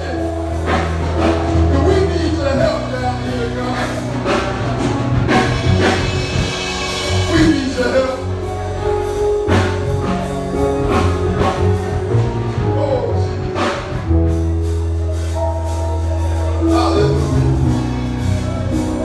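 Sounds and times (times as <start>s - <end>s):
gospel band playing: 0.0s - 19.0s.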